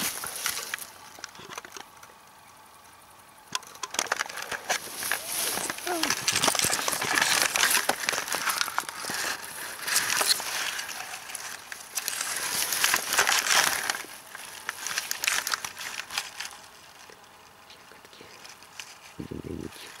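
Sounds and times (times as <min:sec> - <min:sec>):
plants rustling and crackling: 0:00.0 - 0:02.8, 0:03.7 - 0:20.0.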